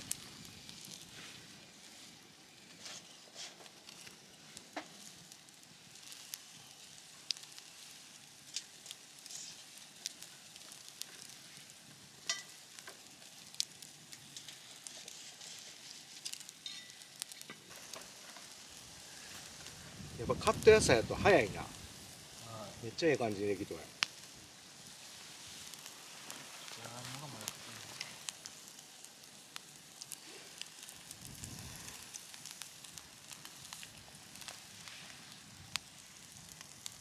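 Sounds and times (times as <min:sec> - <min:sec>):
campfire popping and crackling: 0:00.0 - 0:37.0
food sizzling: 0:00.0 - 0:37.0.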